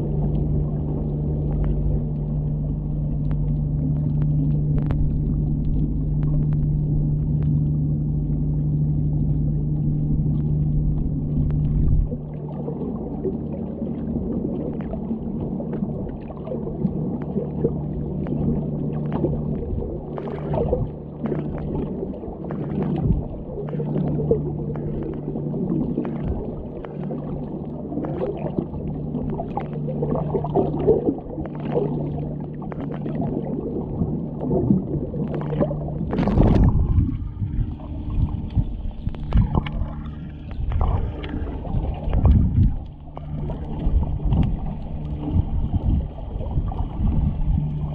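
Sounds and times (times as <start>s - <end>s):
underwater machinery hum: 0.0s - 47.9s
clicks and crackles: 0.2s - 8.4s, 9.1s - 12.6s, 18.2s - 47.9s.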